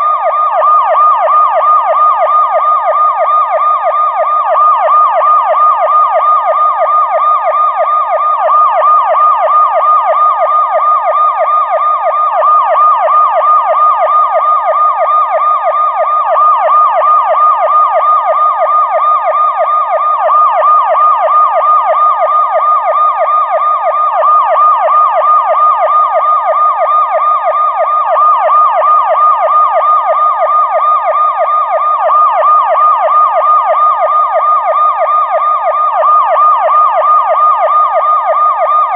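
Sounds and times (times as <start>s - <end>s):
police siren yelp: 0.0s - 38.9s.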